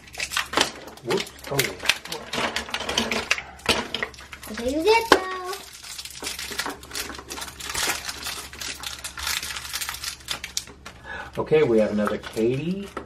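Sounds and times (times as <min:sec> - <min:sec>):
plastic wrapper rustling and tearing: 0:00.0 - 0:13.0.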